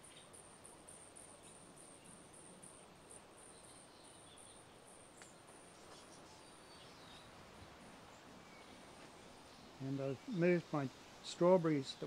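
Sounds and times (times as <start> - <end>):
faint insect chirping: 0.0 - 12.0.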